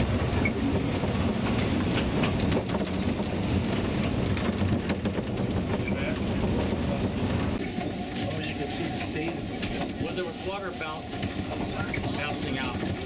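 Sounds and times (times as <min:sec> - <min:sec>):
steam train rumble: 0:00.0 - 0:13.0
wheels clicking on track: 0:00.0 - 0:13.0.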